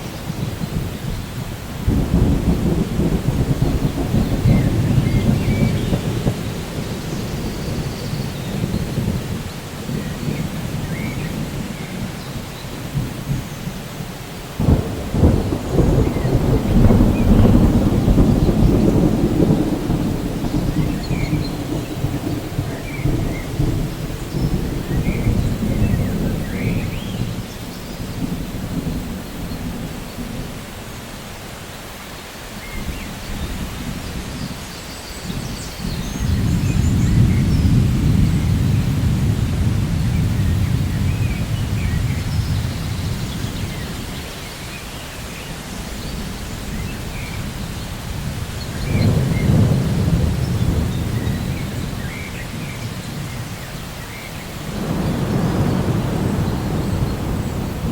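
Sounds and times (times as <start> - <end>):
rolling thunder rumble: 0.0 - 30.8, 32.6 - 57.9
steady rain: 0.0 - 57.9.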